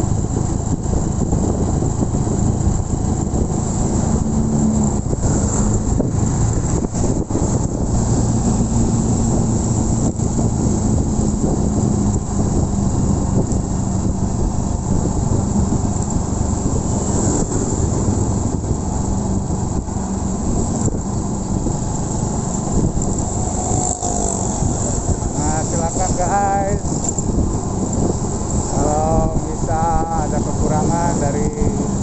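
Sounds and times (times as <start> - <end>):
motorcycle engine cruising: 0.0 - 32.0
road noise: 0.0 - 32.0
wind noise on microphone: 0.0 - 32.0.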